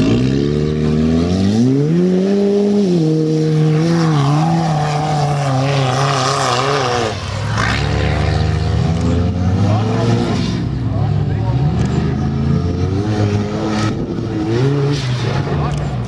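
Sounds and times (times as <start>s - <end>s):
buggy engine revving hard: 0.0s - 16.0s.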